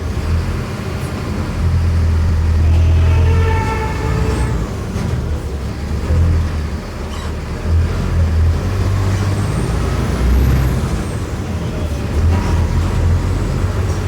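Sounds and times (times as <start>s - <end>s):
diesel bus engine running: 0.0s - 14.0s.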